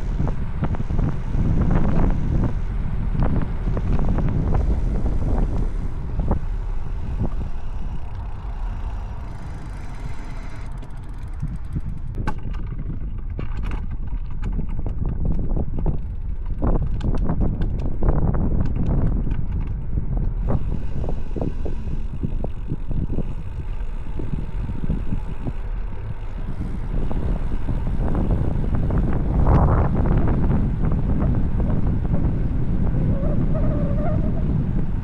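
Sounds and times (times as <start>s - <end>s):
bike rattles and clicks: 0.0s - 35.0s
road rumble: 0.0s - 35.0s
wind buffeting microphone: 0.0s - 35.0s.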